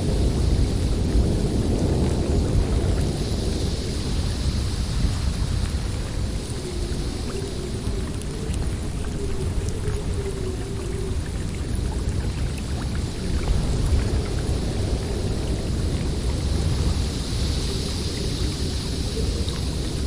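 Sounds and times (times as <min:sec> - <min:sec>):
hissing wind: 0:00.0 - 0:20.0
snowstorm wind rumbling: 0:00.0 - 0:20.0.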